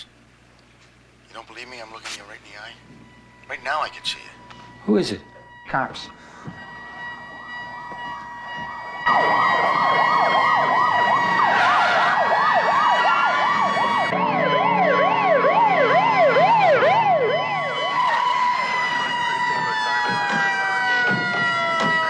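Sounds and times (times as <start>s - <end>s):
steady high siren tone: 1.8s - 22.0s
police sirens yelping: 2.2s - 22.0s.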